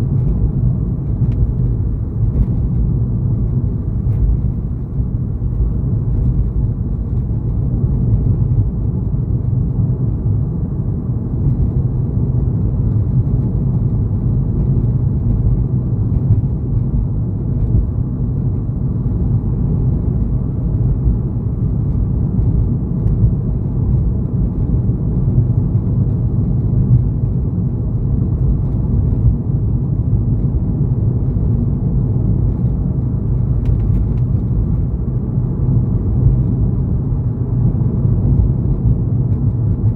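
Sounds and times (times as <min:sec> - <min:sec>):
car driving at road speed: 0:00.0 - 0:39.9.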